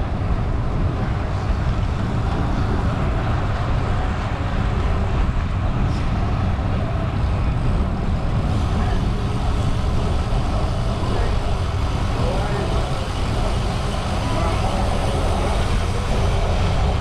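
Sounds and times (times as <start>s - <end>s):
road and tyre noise: 0.0s - 17.0s
wind rushing on microphone: 0.0s - 17.0s.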